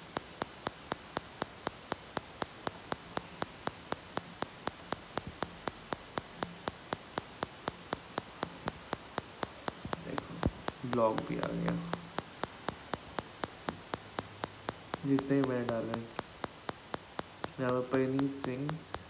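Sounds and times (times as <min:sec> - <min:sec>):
faint hiss: 0:00.0 - 0:19.0
rapid ticking: 0:00.0 - 0:19.0.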